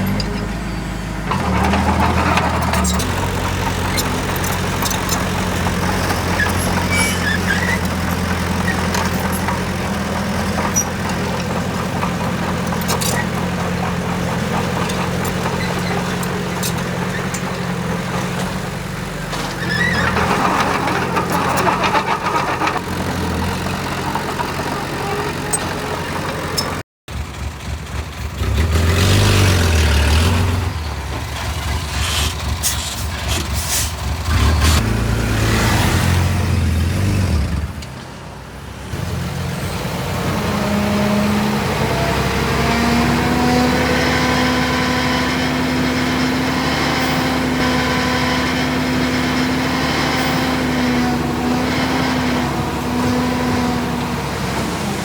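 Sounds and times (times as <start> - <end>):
heavy machinery engines revving: 0.0 - 27.4, 28.1 - 55.0.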